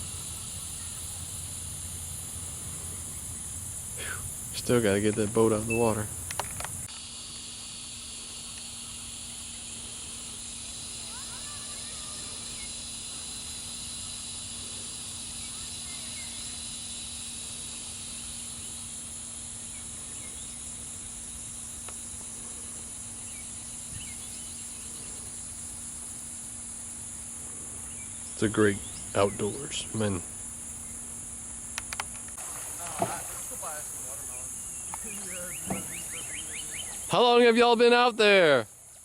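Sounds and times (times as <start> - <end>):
faint chirps: 0.0 - 6.1, 6.8 - 32.0, 32.8 - 37.3
steady low hum: 0.0 - 37.3
high-pitched insect chorus: 0.0 - 39.0.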